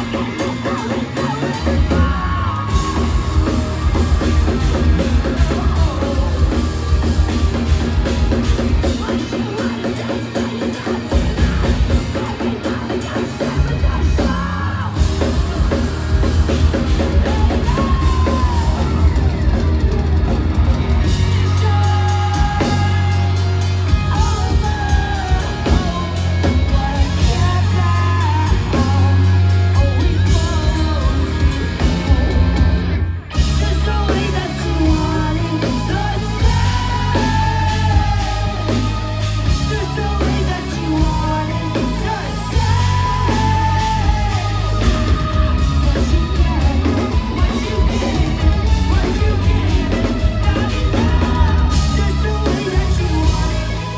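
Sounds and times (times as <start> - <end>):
drums: 0.0 - 53.9
guitars: 0.0 - 53.9
heavy bass: 0.0 - 53.9
person singing: 0.0 - 53.9.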